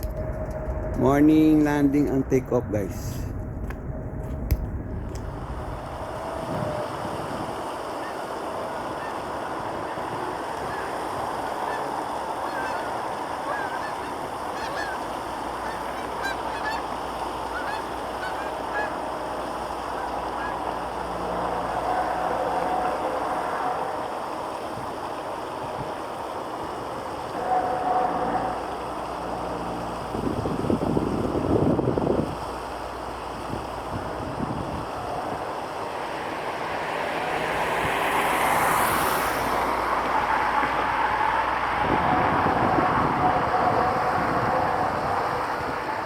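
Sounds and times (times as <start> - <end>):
background rumble: 0.0 - 10.9, 11.5 - 46.0
geese honking: 6.1 - 46.0.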